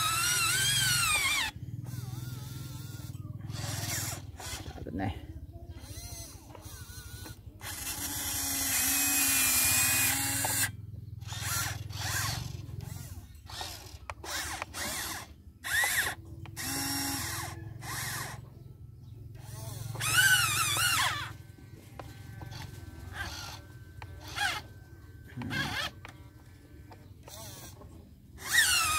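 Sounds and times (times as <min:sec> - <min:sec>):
small electric motors whining: 0:00.0 - 0:28.9.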